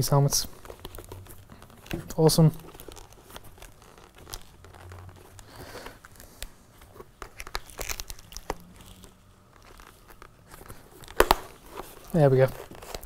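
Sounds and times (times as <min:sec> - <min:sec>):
helmet padding rustling and scraping: 0:00.0 - 0:07.5, 0:09.6 - 0:13.0.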